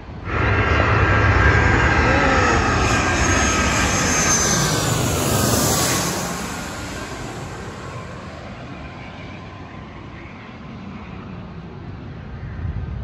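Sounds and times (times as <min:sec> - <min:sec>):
jet airliner roar and whine: 0:00.0 - 0:13.0.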